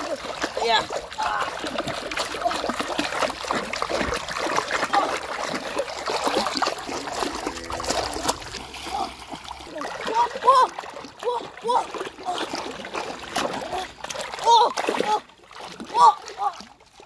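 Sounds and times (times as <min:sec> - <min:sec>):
fish thrashing and splashing in water: 0:00.0 - 0:17.0.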